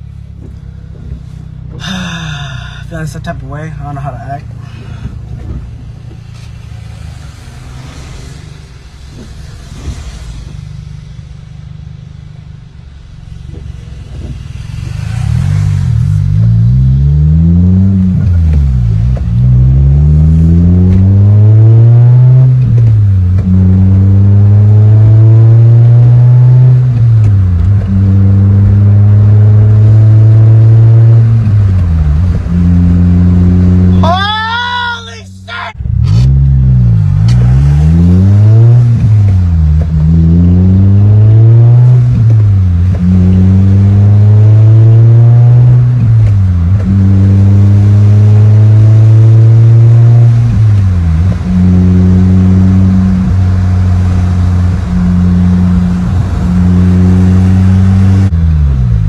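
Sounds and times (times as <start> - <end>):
car engine through loud exhaust: 0.0 - 59.0.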